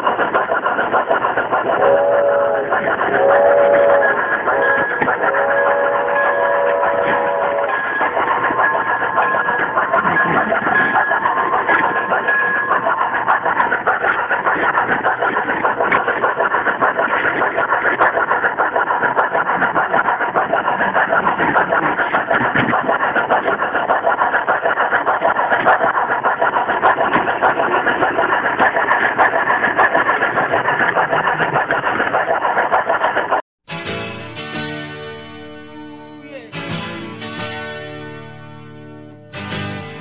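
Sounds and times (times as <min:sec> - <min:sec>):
model train running on track: 0:00.0 - 0:35.9, 0:36.6 - 0:40.0.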